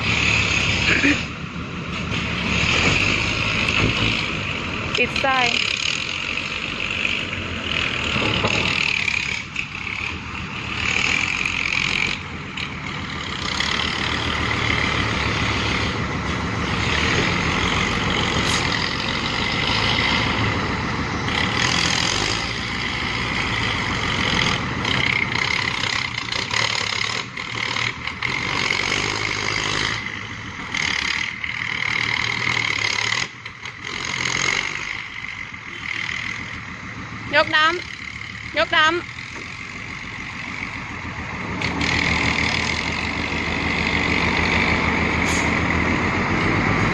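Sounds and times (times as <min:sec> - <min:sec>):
diesel engines running hard: 0:00.0 - 0:46.9.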